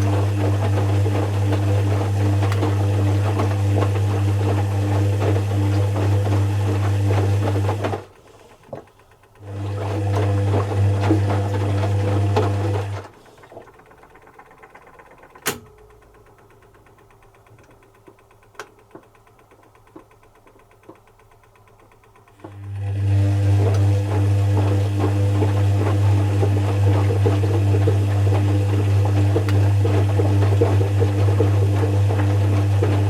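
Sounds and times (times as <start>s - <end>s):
washing machine motor humming: 0.0s - 33.0s.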